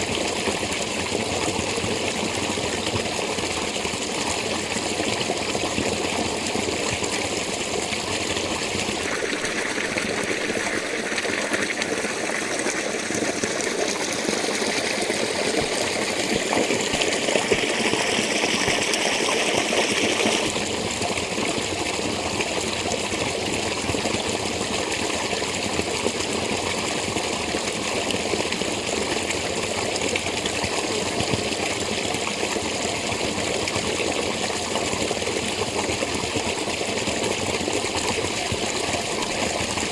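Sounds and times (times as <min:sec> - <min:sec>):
spring water flowing and splashing: 0:00.0 - 0:39.9.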